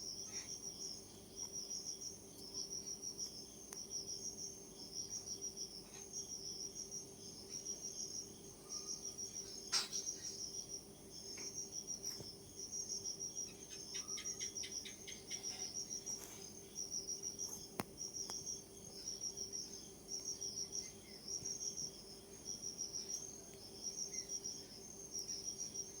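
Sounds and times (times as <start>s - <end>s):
insects chirping in trills: 0.0s - 26.0s.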